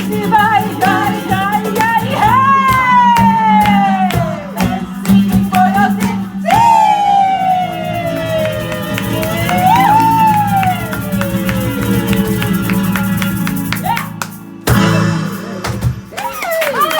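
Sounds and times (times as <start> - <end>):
band playing live: 0.0 - 16.9.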